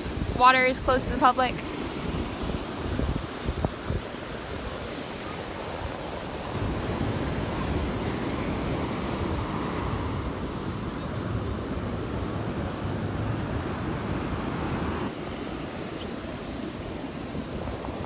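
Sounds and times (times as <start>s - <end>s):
surf breaking on beach: 0.0s - 18.0s
wind buffeting microphone: 0.0s - 18.0s.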